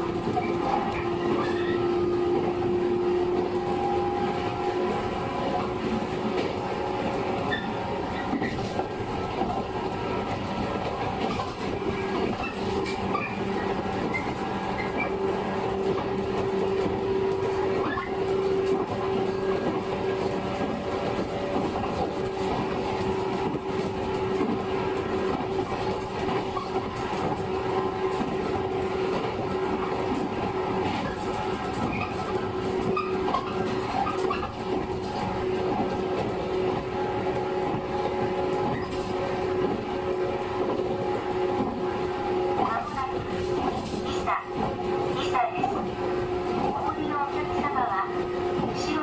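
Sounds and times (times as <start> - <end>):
traction motor hum: 0.0 - 49.0
wheels rumbling on rail: 0.0 - 49.0.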